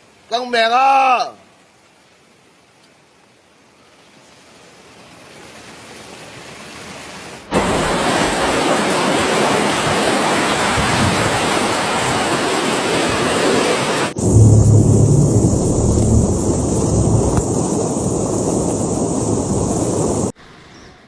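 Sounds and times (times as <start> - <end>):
rushing floodwater: 0.0 - 20.4.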